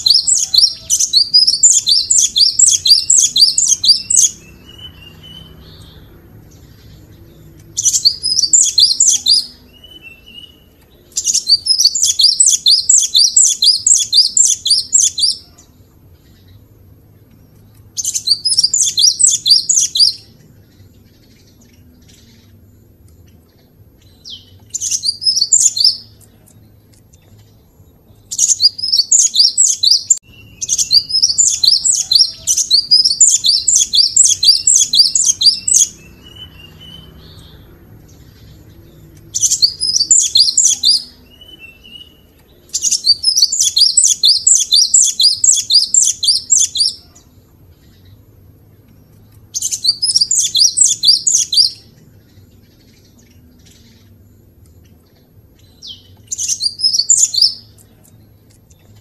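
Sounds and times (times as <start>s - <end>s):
bird singing rapid high notes: 0.0s - 15.6s, 17.9s - 22.7s, 23.7s - 26.2s, 27.3s - 47.2s, 49.5s - 54.1s, 55.6s - 58.3s.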